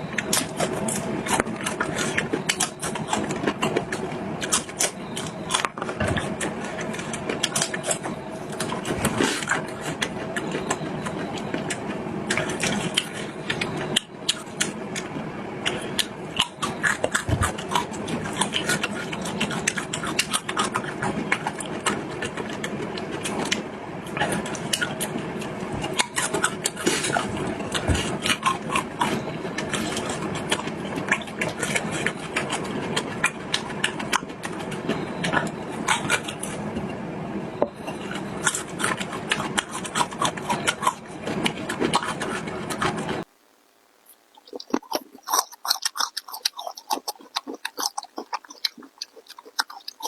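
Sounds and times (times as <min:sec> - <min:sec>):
chewing with wet crunches: 0:00.0 - 0:36.9, 0:37.7 - 0:50.0.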